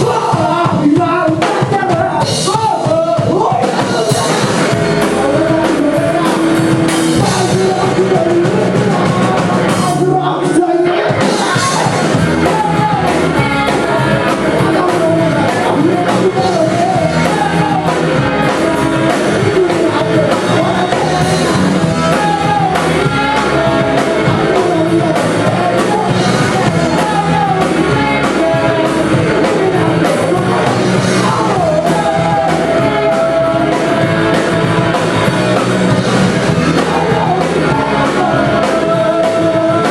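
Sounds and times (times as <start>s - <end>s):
person singing: 0.0s - 39.9s
rock band playing live: 0.0s - 39.9s.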